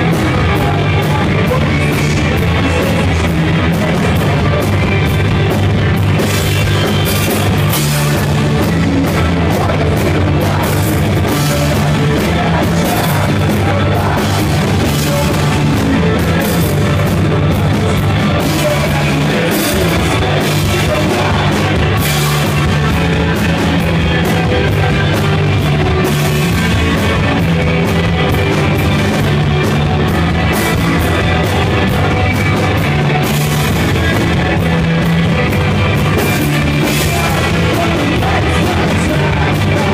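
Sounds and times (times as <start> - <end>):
bass guitar: 0.0 - 39.9
drum kit: 0.0 - 39.9
electric guitars: 0.0 - 39.9
person singing: 0.0 - 39.9.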